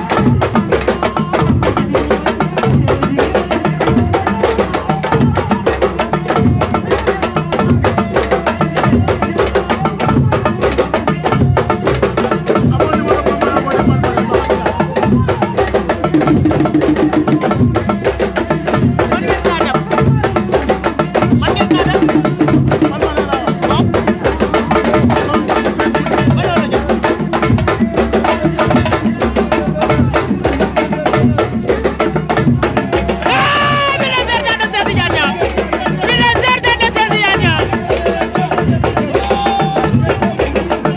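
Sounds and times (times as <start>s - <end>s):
fast dense drumming: 0.0s - 40.9s
voices singing or chanting: 0.0s - 40.9s.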